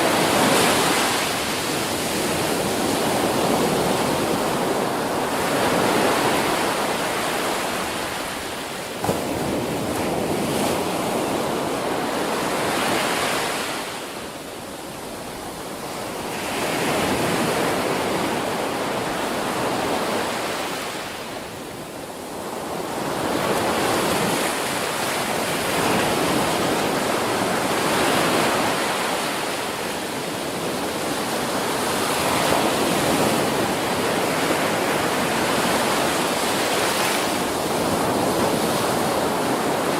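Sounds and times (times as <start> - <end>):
ocean surf breaking: 0.0 - 14.3, 15.0 - 39.9.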